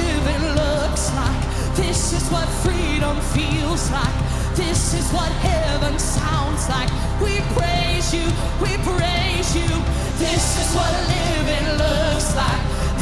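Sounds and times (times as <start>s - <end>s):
band with drums and cymbals: 0.0s - 13.0s
person singing wordless runs: 0.0s - 13.0s.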